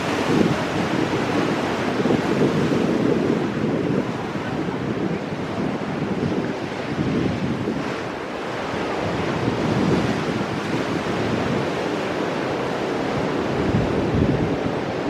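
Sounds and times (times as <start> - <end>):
waves breaking on rocks: 0.0 - 15.0
wind buffeting microphone: 0.0 - 15.0.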